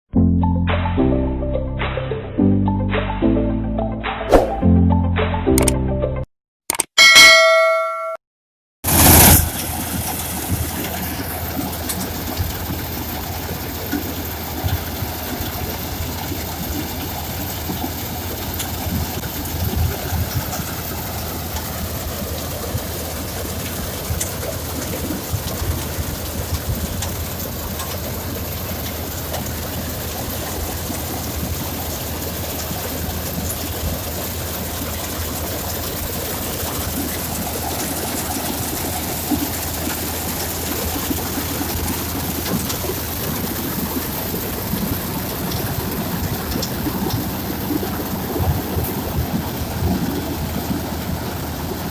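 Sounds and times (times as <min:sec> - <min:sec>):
combine harvester engine drone: 0:08.9 - 0:51.9.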